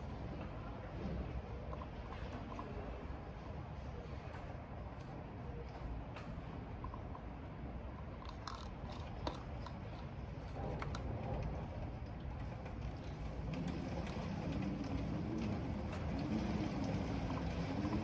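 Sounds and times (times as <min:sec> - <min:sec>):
wind and rain on building: 0:00.0 - 0:18.0.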